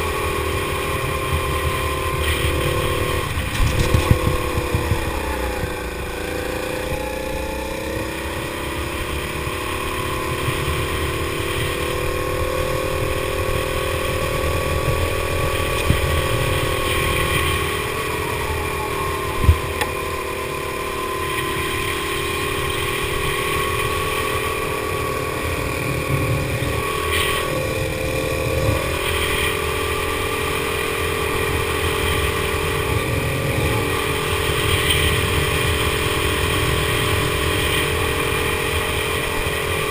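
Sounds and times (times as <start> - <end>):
go-kart engine running hard: 0.0 - 39.9
wind rumble on microphone: 0.0 - 39.9.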